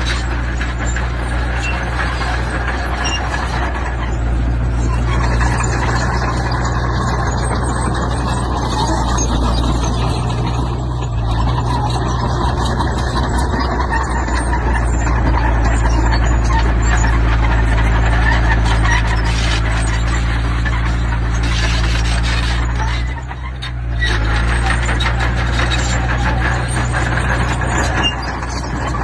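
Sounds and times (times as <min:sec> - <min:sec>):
diesel construction machinery: 0:00.0 - 0:29.0.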